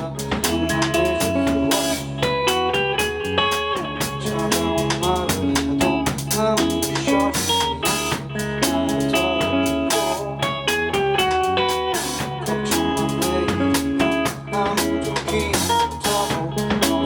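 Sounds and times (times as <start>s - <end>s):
drum kit: 0.0s - 17.0s
electric guitar with bent notes: 0.0s - 17.0s
low bass notes: 0.0s - 17.0s.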